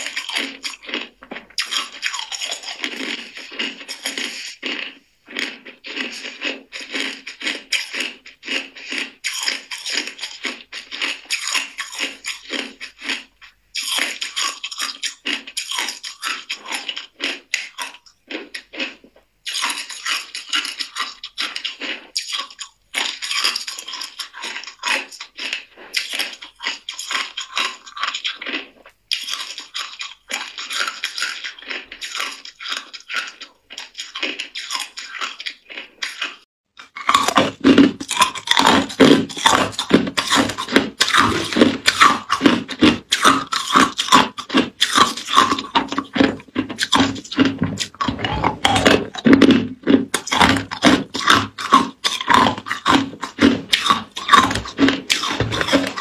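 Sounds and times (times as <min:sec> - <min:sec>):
ice cubes crunched between teeth: 0:00.0 - 0:56.0.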